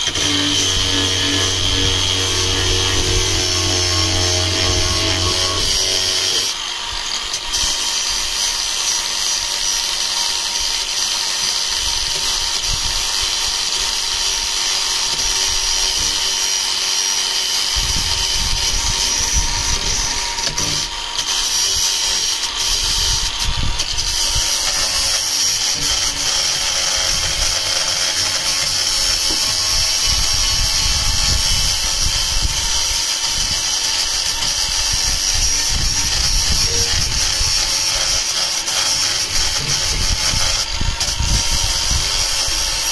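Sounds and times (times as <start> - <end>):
angle grinder cutting panel: 0.0 - 42.9.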